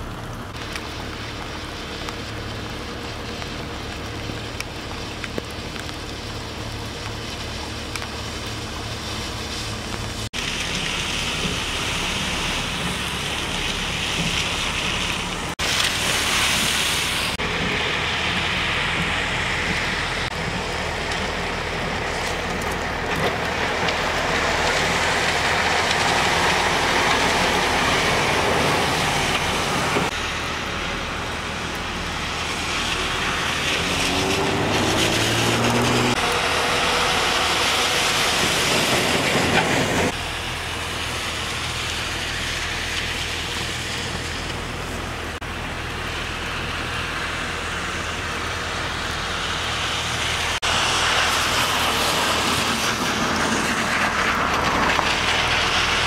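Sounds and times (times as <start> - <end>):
low engine note: 0.0 - 56.0
rain hissing: 0.0 - 56.0
tyres spraying through water: 0.0 - 56.0.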